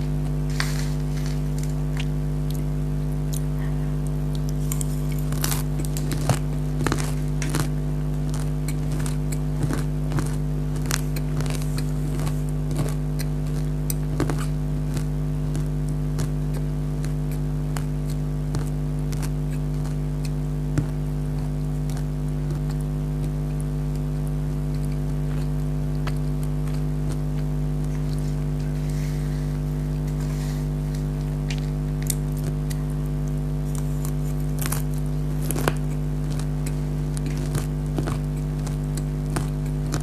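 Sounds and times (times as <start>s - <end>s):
crunching and chewing snack: 0.0s - 40.0s
steady low hum: 0.0s - 40.0s.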